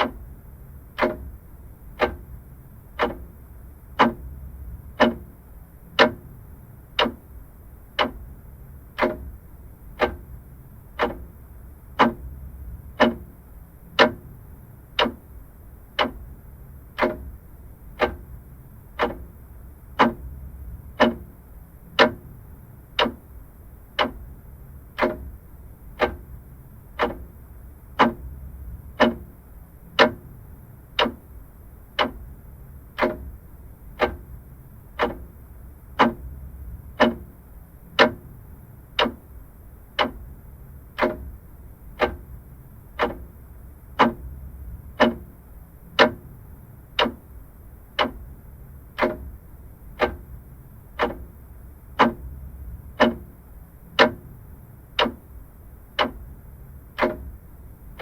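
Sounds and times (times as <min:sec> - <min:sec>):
faint low hum: 0:00.0 - 0:58.0
mechanical clock ticking: 0:00.0 - 0:58.0.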